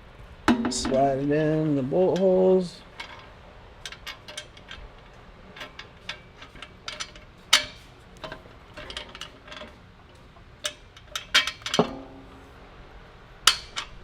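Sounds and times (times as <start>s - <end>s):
metal bolts clicking and clinking: 0.5s - 12.6s, 13.4s - 14.0s
metal clank: 0.5s - 12.6s, 13.4s - 14.0s.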